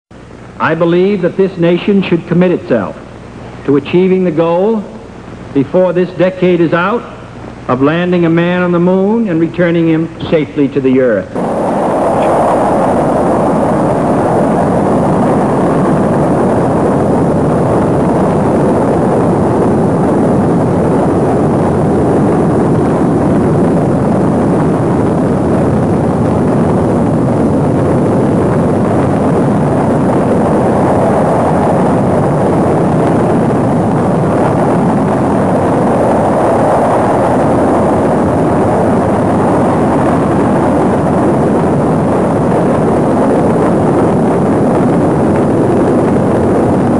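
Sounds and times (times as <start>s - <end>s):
rocket engines roaring: 0.2s - 46.9s.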